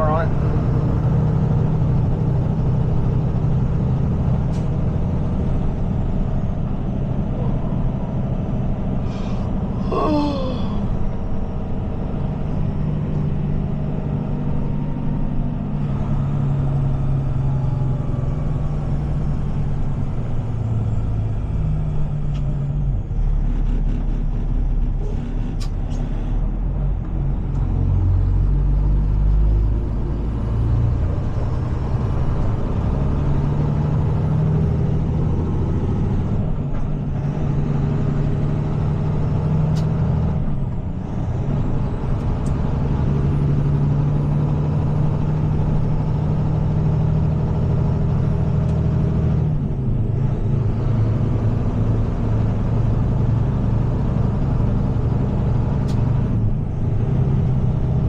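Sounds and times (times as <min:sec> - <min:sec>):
road rumble: 0:00.0 - 0:58.0
truck diesel engine running: 0:00.0 - 0:58.0.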